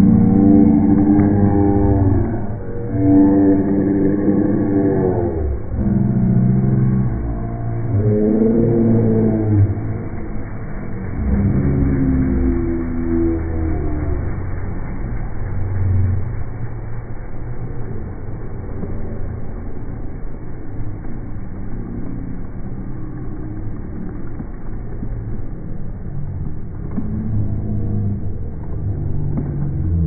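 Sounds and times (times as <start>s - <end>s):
deep motorbike engine rumble: 0.0s - 30.0s.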